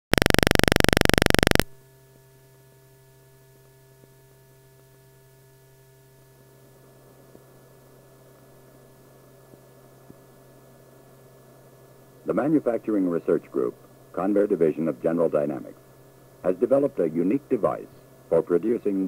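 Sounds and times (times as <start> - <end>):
faint steady hum: 0.1 - 19.0.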